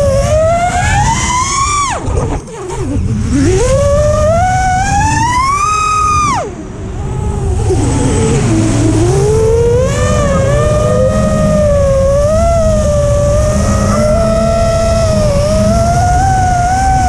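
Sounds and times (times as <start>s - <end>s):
quadcopter motors whining: 0.0s - 17.0s
low rumble: 2.1s - 17.0s.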